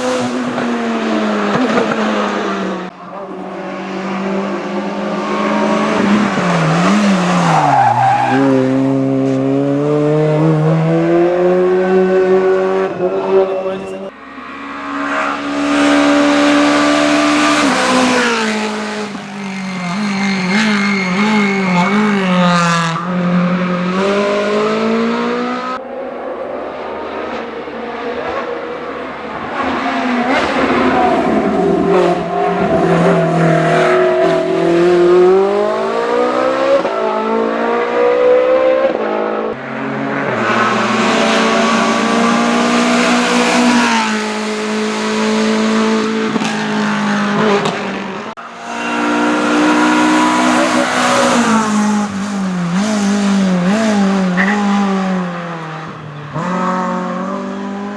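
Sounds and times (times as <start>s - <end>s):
race car engines revving: 0.0s - 57.9s.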